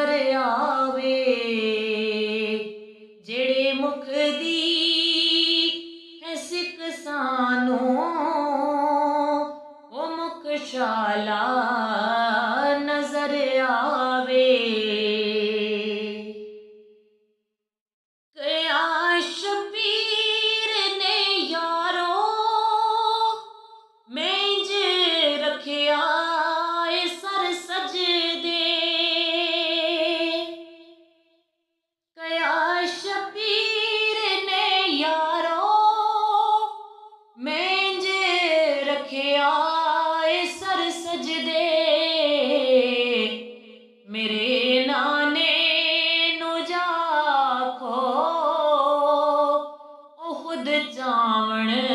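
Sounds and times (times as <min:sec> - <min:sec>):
woman singing unaccompanied: 0:00.0 - 0:16.5, 0:18.4 - 0:23.4, 0:24.1 - 0:30.7, 0:32.2 - 0:36.8, 0:37.4 - 0:51.9.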